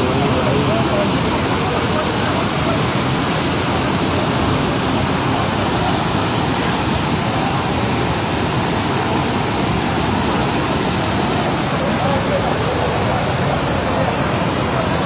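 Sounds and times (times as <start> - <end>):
floodwater rushing roar: 0.0 - 15.0.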